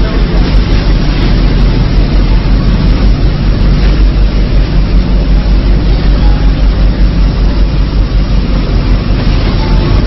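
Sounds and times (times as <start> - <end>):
machine low rumble with hiss: 0.0 - 10.0.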